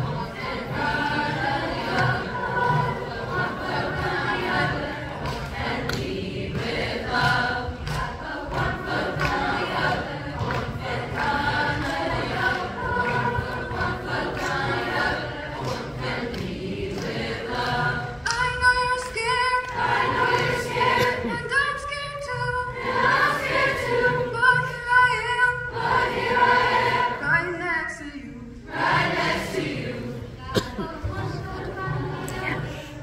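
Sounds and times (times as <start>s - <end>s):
children's chorus singing: 0.0s - 27.2s, 28.6s - 33.0s.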